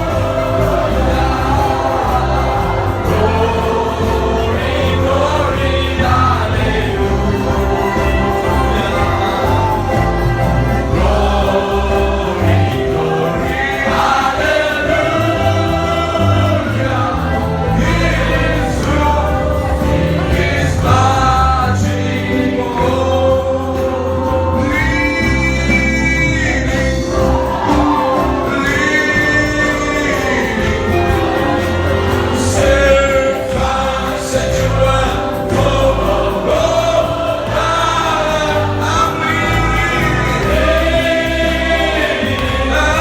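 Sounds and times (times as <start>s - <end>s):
gospel choir singing: 0.0s - 43.0s
instrumental backing with bass line: 0.0s - 43.0s.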